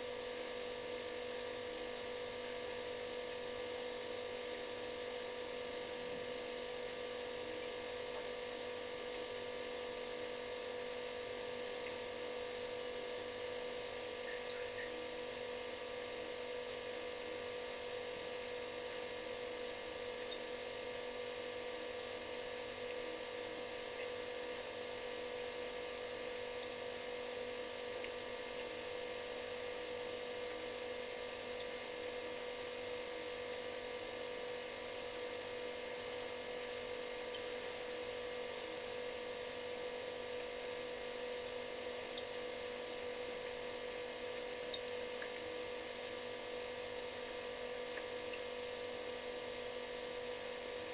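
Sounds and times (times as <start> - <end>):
refrigerator compressor humming: 0.0 - 50.9.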